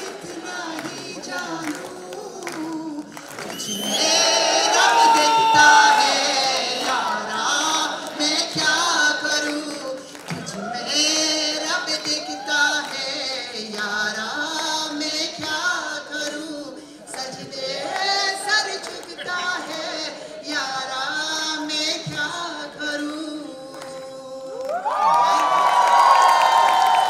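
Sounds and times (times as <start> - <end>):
women singing into microphones: 0.0 - 25.1.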